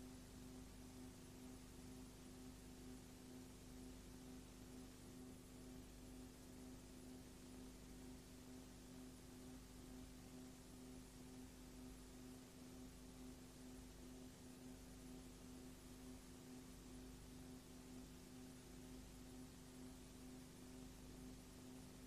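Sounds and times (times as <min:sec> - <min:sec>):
background hiss: 0:00.0 - 0:22.0
faint low hum: 0:00.0 - 0:22.0.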